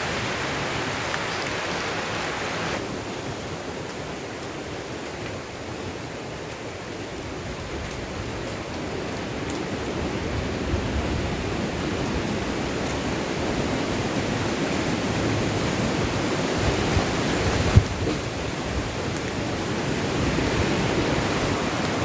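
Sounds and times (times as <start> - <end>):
heavy rain: 0.0 - 22.0
wind in the forest: 0.0 - 22.0.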